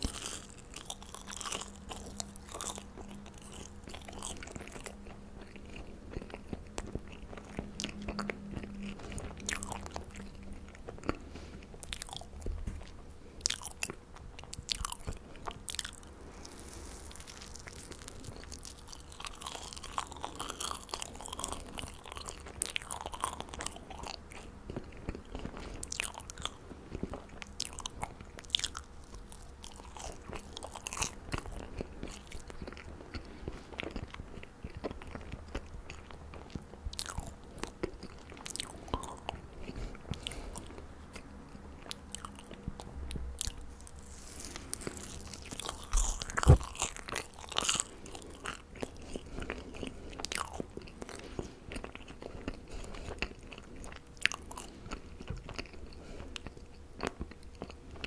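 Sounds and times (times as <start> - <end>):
person chewing marshmallows: 0.0 - 58.0.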